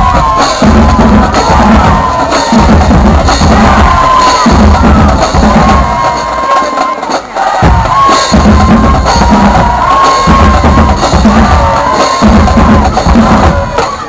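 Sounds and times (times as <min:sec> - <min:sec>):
bass drums pounding: 0:00.0 - 0:06.4, 0:07.6 - 0:14.0
snare drums: 0:00.0 - 0:14.0.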